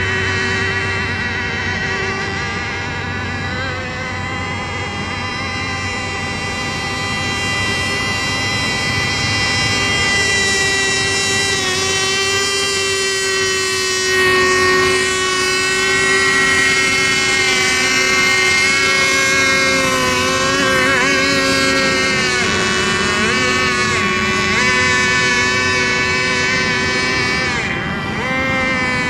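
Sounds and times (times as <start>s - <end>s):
model boat motors whining: 0.0s - 29.0s.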